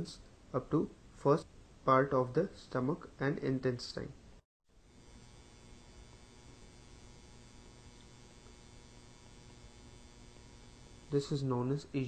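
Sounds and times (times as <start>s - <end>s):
faint electrical hum and hiss: 0.0s - 12.0s.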